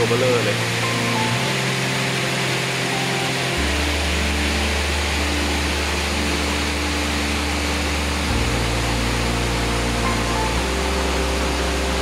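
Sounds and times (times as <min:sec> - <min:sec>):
music with held bass notes: 0:00.0 - 0:12.0
waterfall rushing: 0:00.0 - 0:12.0.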